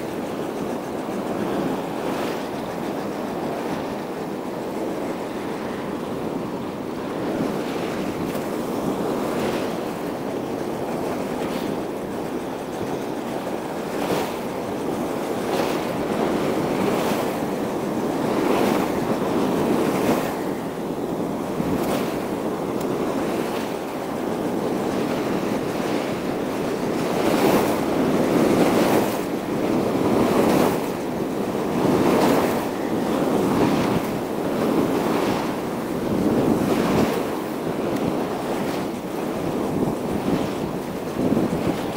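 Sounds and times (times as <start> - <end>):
waves washing against rocks: 0.0 - 41.9
wind buffeting microphone: 0.0 - 41.9.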